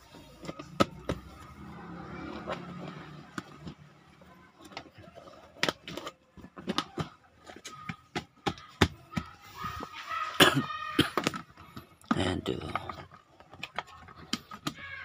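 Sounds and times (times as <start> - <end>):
rubber floor mat clicks and knocks: 0.0 - 9.9, 11.1 - 15.0.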